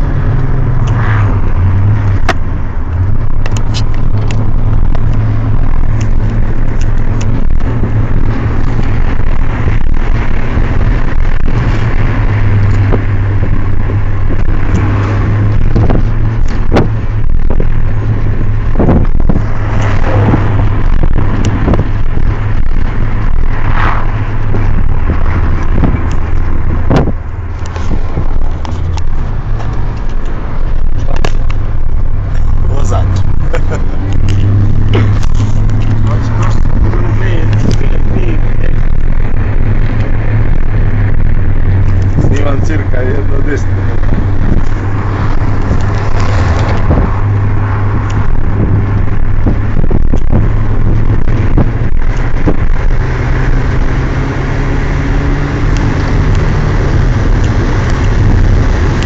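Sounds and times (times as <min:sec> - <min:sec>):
car engine drone: 0:00.0 - 0:59.0
road noise hiss: 0:00.0 - 0:59.0.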